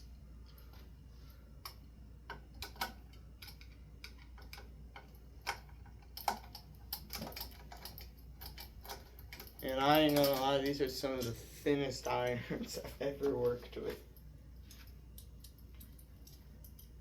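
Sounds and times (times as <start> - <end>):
screwdriver and metal parts clinking: 2.6 - 17.0.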